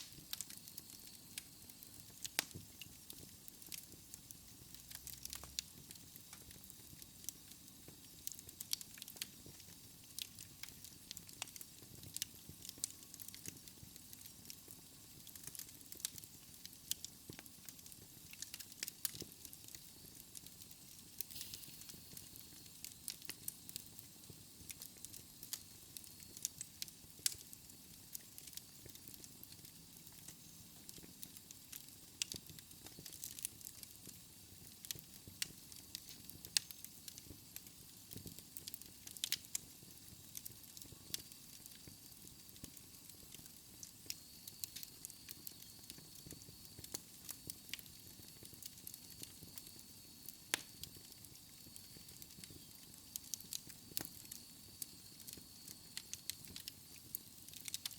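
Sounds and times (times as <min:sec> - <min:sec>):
fire crackling and popping: 0:00.0 - 0:57.9
fireplace fire hissing: 0:00.0 - 0:57.9.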